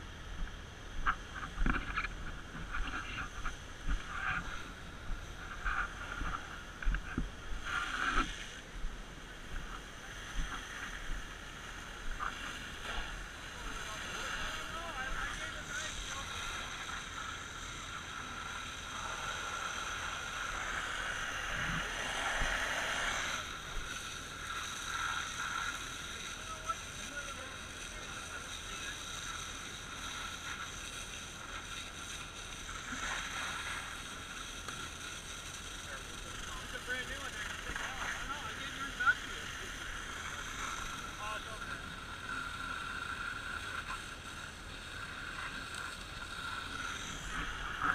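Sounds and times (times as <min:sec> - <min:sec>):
pump engine drone: 0:00.0 - 0:47.9
hose spraying water: 0:00.4 - 0:47.9.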